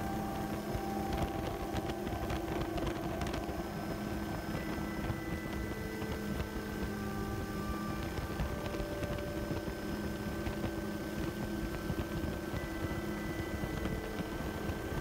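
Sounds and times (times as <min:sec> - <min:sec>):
helicopter drone from inside: 0:00.0 - 0:15.0
steady tones: 0:00.0 - 0:15.0.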